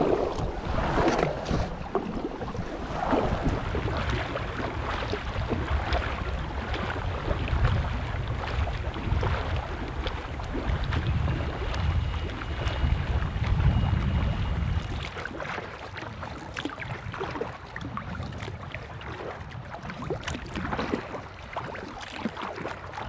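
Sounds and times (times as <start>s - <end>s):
kayak paddle splashes: 0.0s - 23.0s
lake water lapping: 0.0s - 23.0s
wind rumbling on microphone: 0.0s - 23.0s.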